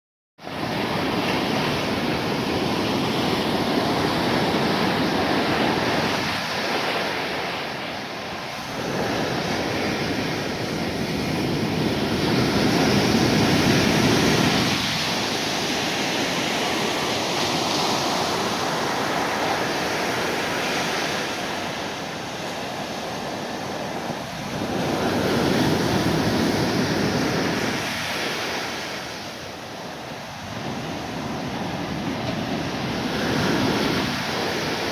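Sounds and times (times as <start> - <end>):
surf breaking on beach: 0.5 - 34.9.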